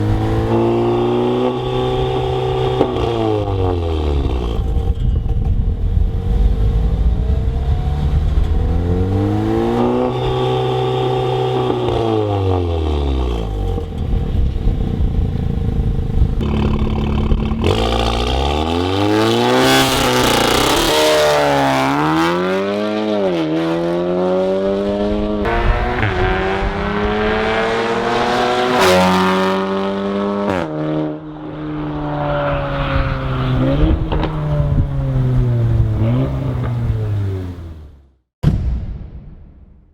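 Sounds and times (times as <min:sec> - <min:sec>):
car engine revving: 0:05.8 - 0:38.0.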